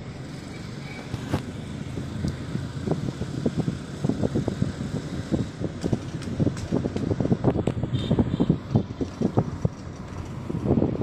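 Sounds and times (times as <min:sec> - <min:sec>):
car road noise from inside: 0:00.0 - 0:11.0
wind buffeting microphone: 0:01.2 - 0:11.0.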